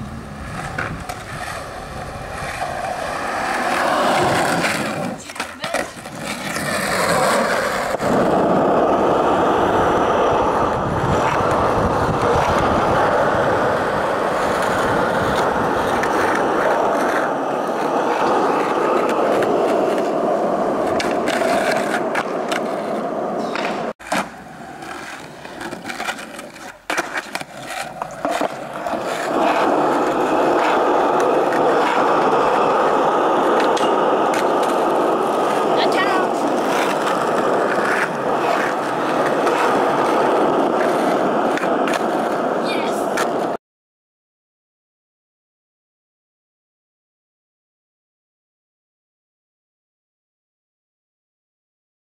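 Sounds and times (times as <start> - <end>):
skateboard sliding on ledge and rail: 0.0 - 43.6
skateboard wheels rolling on concrete: 0.0 - 43.6
skateboard clacks: 0.1 - 43.6.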